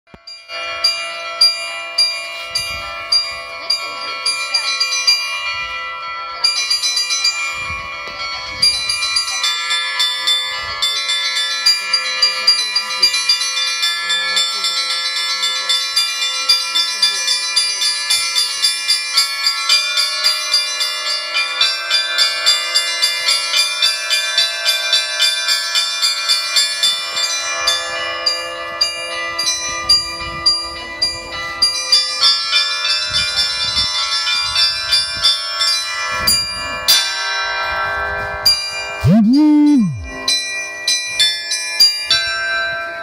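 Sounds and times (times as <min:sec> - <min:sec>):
church bells pealing: 0:00.4 - 0:36.2.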